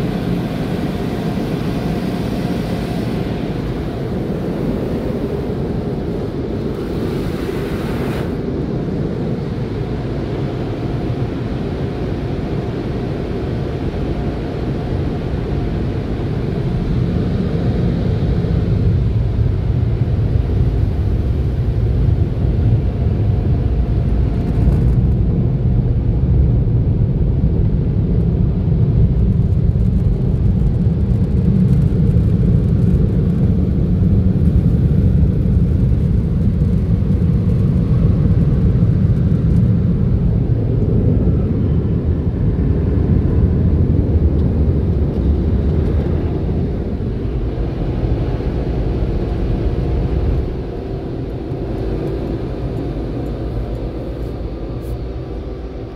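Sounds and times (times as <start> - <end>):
car wash dryer blowers rushing: 0.0 - 55.9.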